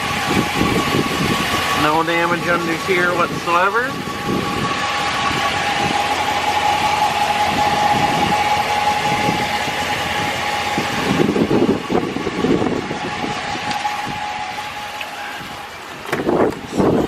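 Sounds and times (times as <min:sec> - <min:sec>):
engine idling: 0:00.0 - 0:17.0
wind buffeting microphone: 0:00.0 - 0:17.0.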